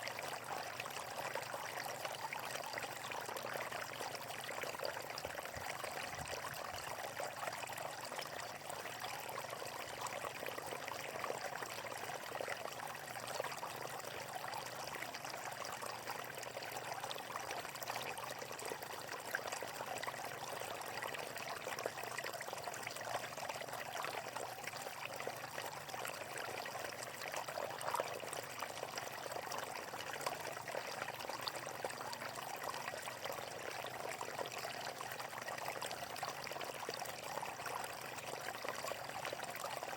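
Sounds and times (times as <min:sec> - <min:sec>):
water rushing in a stream: 0:00.0 - 0:39.9.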